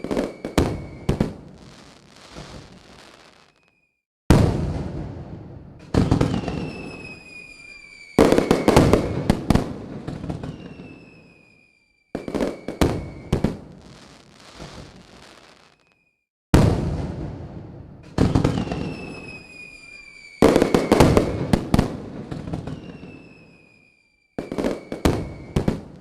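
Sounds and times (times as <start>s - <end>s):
fireworks booming: 0.0s - 3.6s, 4.3s - 15.5s, 16.5s - 23.8s, 24.4s - 26.0s
fireworks whistling: 0.0s - 4.9s, 5.8s - 16.2s, 18.0s - 26.0s
fireworks crackling and popping: 0.0s - 26.0s.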